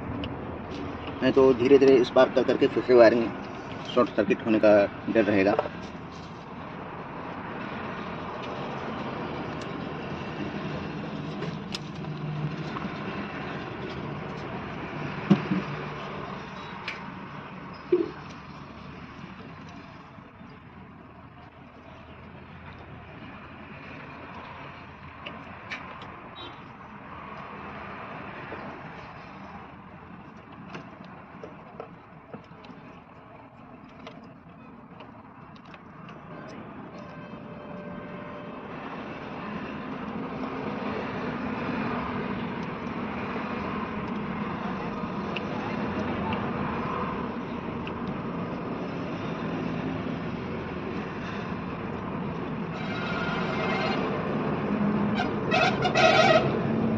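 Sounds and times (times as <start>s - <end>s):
steady background noise: 0.0s - 56.9s.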